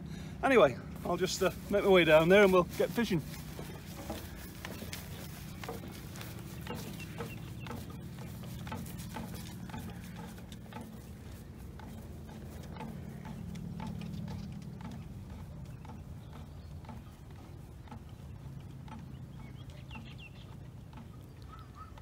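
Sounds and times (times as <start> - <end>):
low steady rumble: 0.0 - 22.0
footsteps on grass: 0.4 - 18.5.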